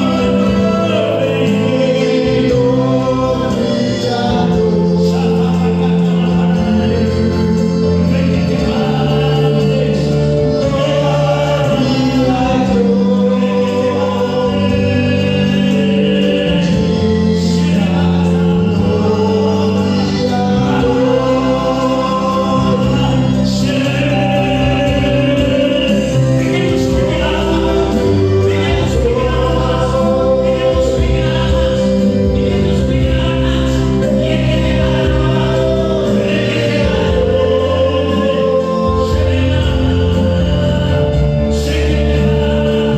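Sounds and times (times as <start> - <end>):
choir singing gospel: 0.0 - 42.9.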